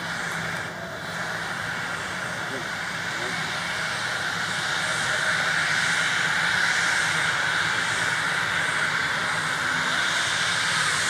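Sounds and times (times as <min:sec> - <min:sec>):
jet engines hissing and whining: 0:00.0 - 0:11.0.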